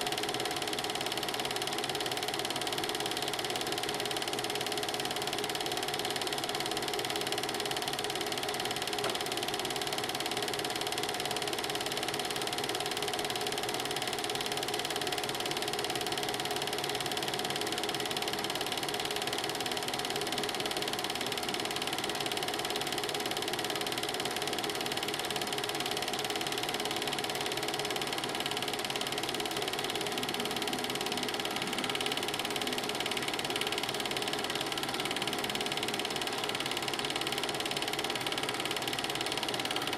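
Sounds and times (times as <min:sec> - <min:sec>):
film projector clatter: 0:00.0 - 0:39.9.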